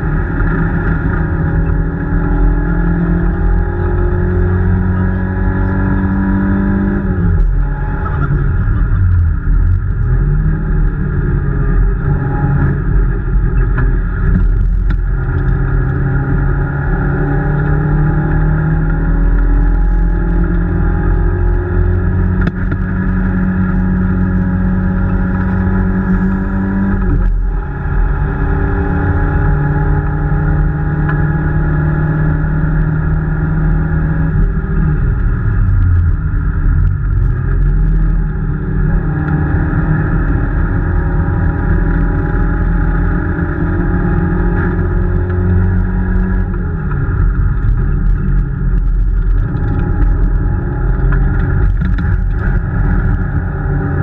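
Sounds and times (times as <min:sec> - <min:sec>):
car engine revving under hard driving: 0:00.0 - 0:54.0.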